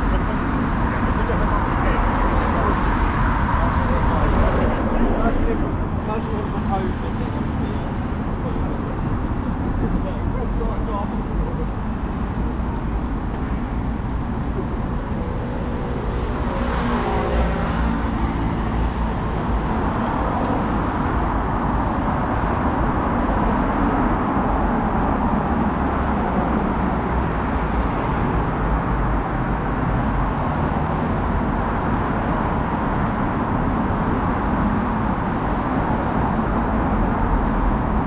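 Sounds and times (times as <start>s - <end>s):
vehicle rumble: 0.0s - 38.0s.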